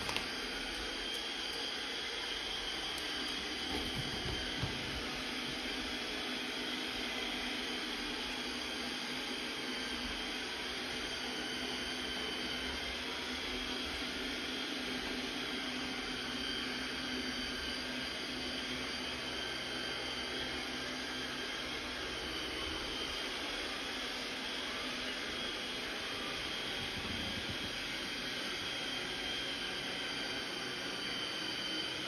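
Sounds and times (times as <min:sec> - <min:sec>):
robot vacuum whirring: 0:00.0 - 0:15.2, 0:16.0 - 0:32.0.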